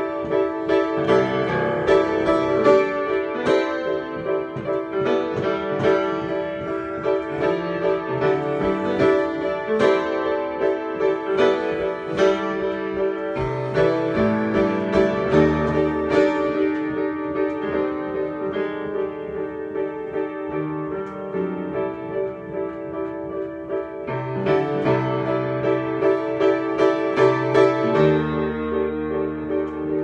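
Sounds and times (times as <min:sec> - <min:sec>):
solo piano improvisation: 0:00.0 - 0:30.0.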